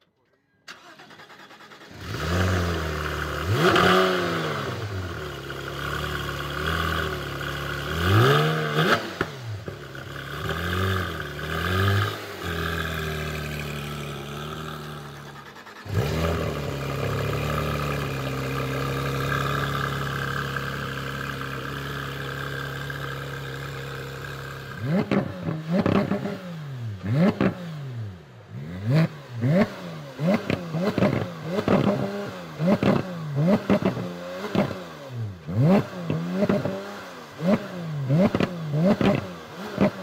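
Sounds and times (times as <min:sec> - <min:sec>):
car engine revving: 0:00.8 - 0:40.0.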